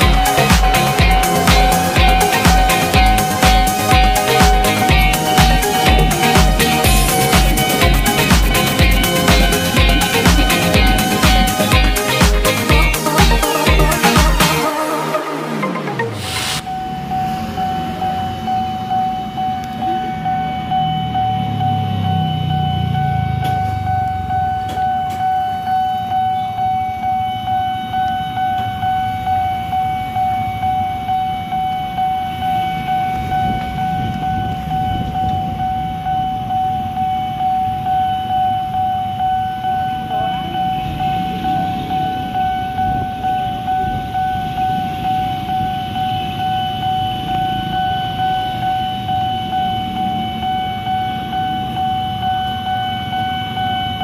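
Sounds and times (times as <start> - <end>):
idling motorcycle and car engines: 0.0 - 14.6, 17.0 - 25.7, 32.1 - 54.0
level-crossing warning bell ringing: 0.0 - 54.0.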